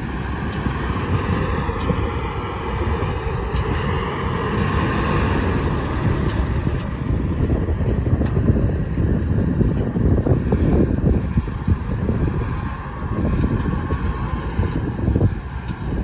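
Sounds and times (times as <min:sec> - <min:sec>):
heavy diesel engines running: 0:00.0 - 0:16.0
wind rumbling on microphone: 0:00.0 - 0:16.0.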